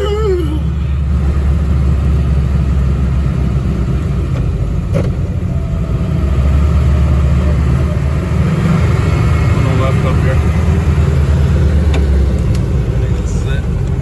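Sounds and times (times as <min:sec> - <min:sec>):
engine and road rumble in car: 0:00.0 - 0:14.0.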